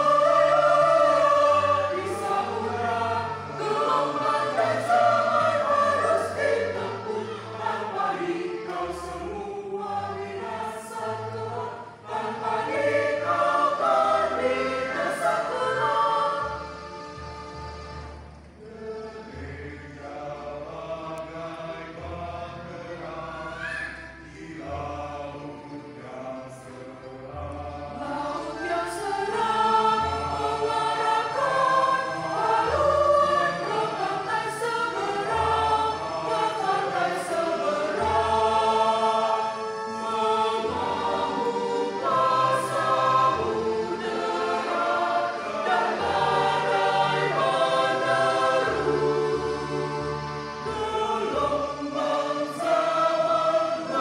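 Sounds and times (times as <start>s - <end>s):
mixed choir singing a hymn: 0.0s - 18.0s, 18.6s - 54.0s.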